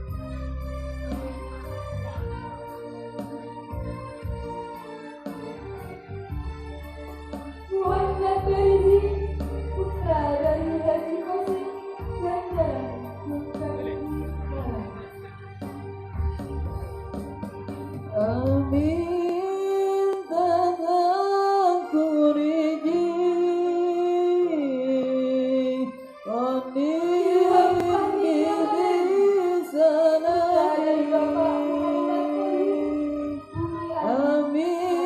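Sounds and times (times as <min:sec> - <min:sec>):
instrumental backing: 0:00.0 - 0:35.0.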